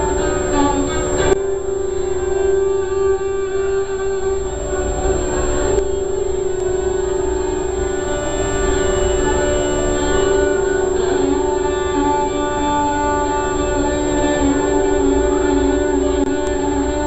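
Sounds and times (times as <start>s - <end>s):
steady drone tone: 0.0s - 17.0s
violin bowed held notes: 0.0s - 17.0s.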